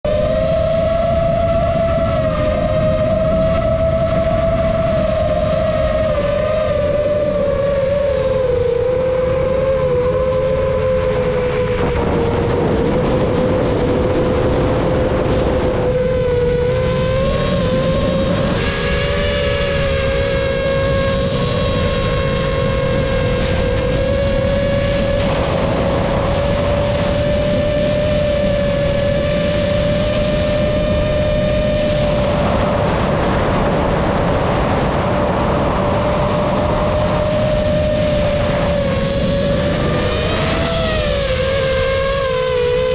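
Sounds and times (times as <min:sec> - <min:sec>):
aircraft engine droning: 0:00.0 - 0:42.9
wind rushing: 0:00.0 - 0:42.9.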